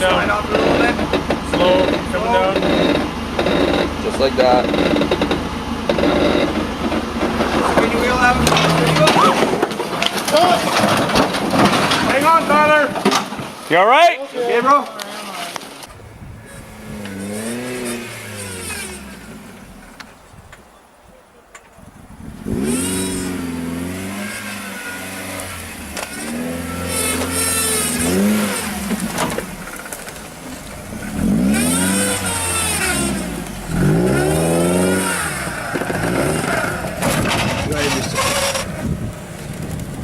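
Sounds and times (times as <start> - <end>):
off-road engine revving: 0.0 - 13.4, 15.8 - 20.4, 21.9 - 40.0.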